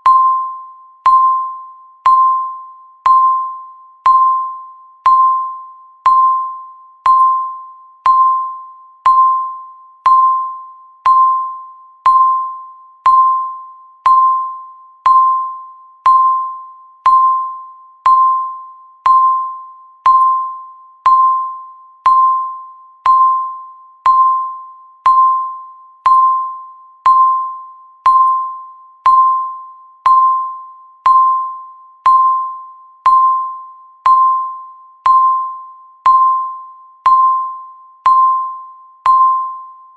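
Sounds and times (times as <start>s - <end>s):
electronic ding: 0.0s - 39.9s.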